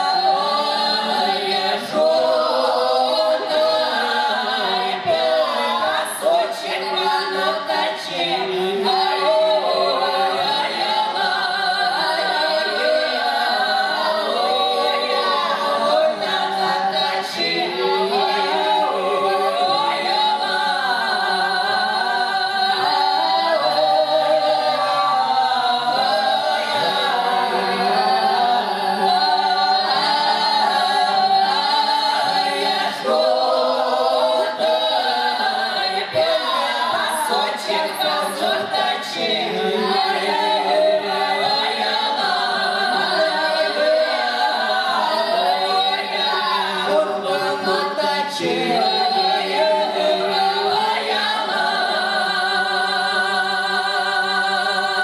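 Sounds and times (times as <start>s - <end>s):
a cappella folk choir singing: 0.0s - 55.0s.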